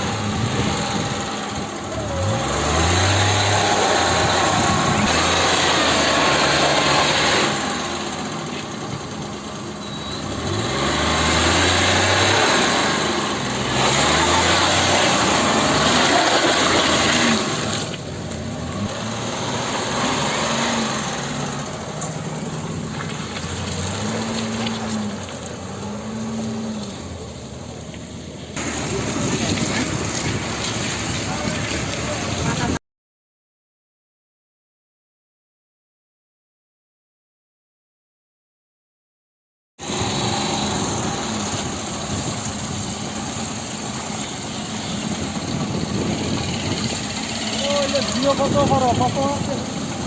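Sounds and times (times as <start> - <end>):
car engine revving under load: 0.0 - 32.8, 39.8 - 50.0.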